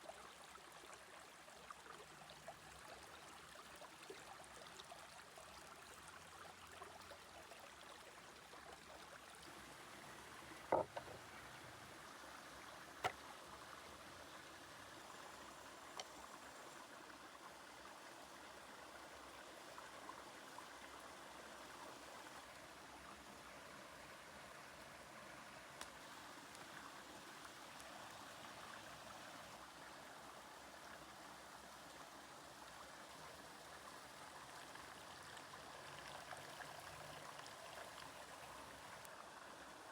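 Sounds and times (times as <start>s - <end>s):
faint trickling water: 0.0s - 39.9s.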